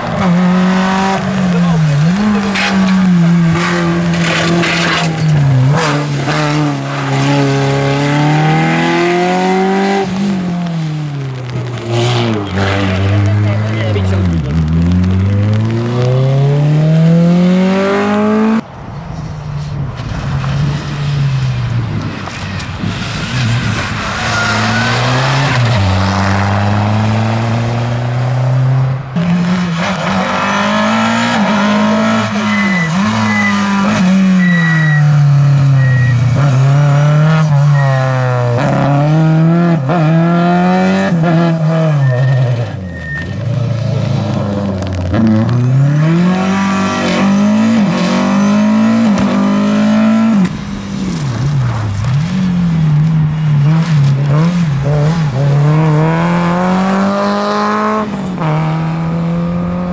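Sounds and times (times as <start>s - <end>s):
rally car engines at hard throttle: 0.0s - 59.9s.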